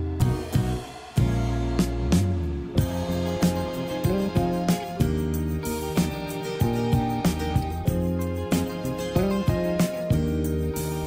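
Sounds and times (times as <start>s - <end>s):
gentle plucked instrumental music: 0.0s - 11.0s.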